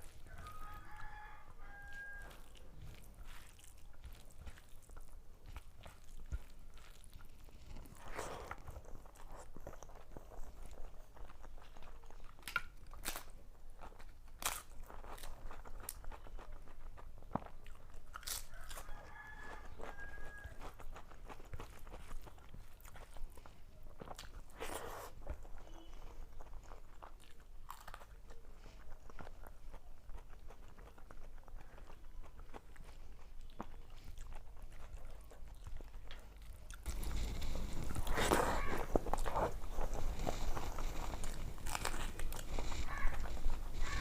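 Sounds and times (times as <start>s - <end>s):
chewing and crunching food: 0.0s - 44.0s.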